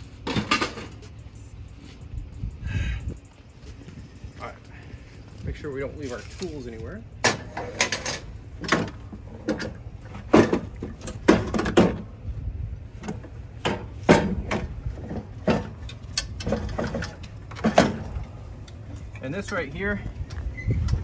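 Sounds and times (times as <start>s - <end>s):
metal housing clunking and scraping: 0.0s - 1.4s, 5.0s - 21.0s.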